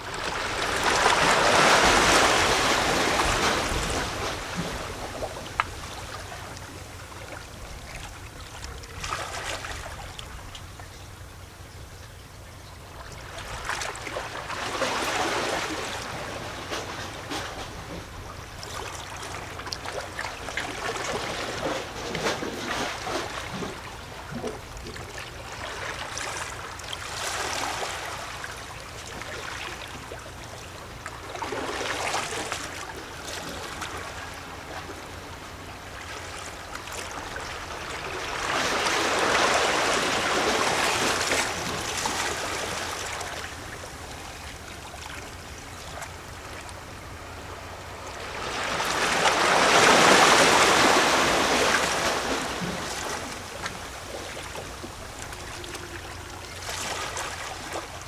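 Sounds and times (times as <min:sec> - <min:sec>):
small waves lapping on rocks: 0:00.0 - 0:11.4, 0:12.9 - 0:58.0.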